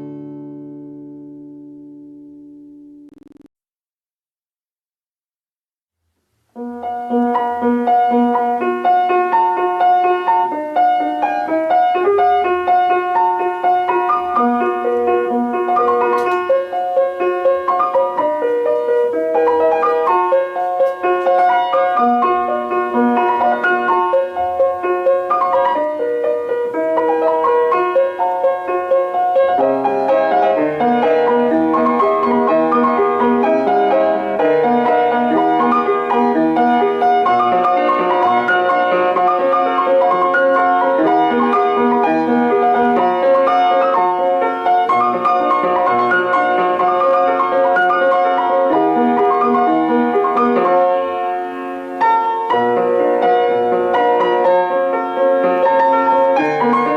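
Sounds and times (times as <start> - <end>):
piano music: 0.0 - 3.5, 6.5 - 56.9.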